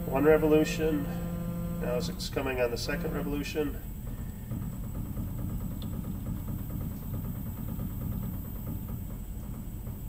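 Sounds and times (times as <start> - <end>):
fine rapid ticking: 0.0 - 10.0
mill running low hum: 0.0 - 10.0.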